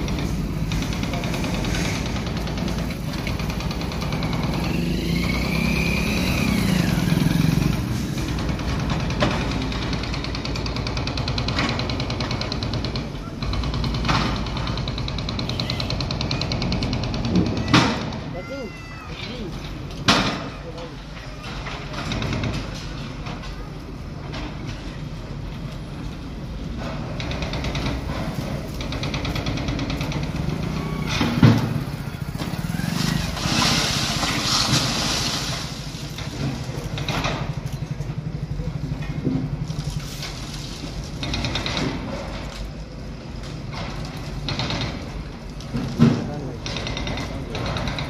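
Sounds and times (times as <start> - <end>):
diesel engines running: 0.0 - 48.0
rush of demolition noise: 0.0 - 48.0.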